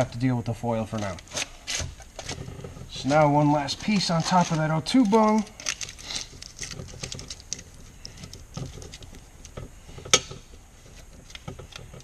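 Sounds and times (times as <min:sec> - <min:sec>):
aluminium foil crinkling: 0:00.8 - 0:12.0.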